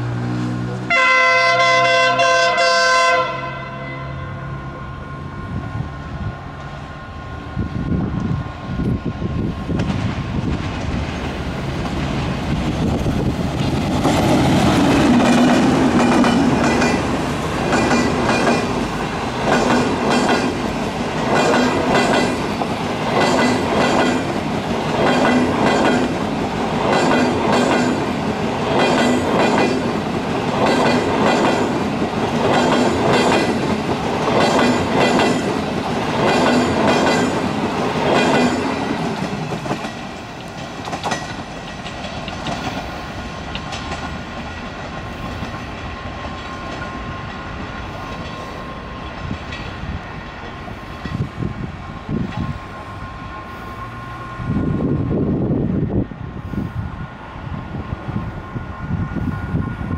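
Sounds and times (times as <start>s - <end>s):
diesel locomotive passing: 0.0s - 59.9s
train wheels clicking on rail joints: 6.0s - 55.2s.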